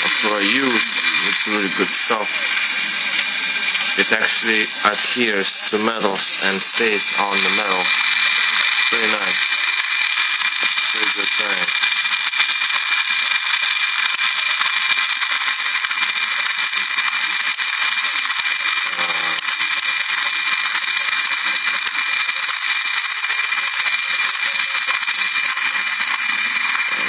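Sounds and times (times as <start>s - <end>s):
small electric motor whining: 0.0s - 27.0s
steady hiss: 0.0s - 27.0s.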